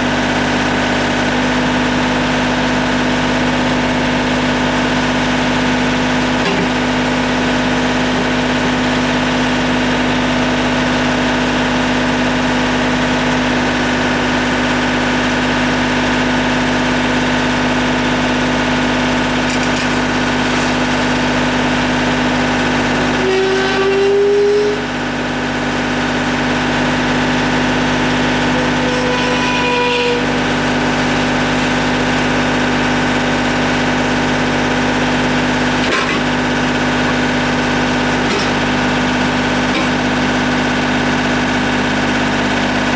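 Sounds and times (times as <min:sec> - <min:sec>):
backhoe engine running: 0:00.0 - 0:42.9.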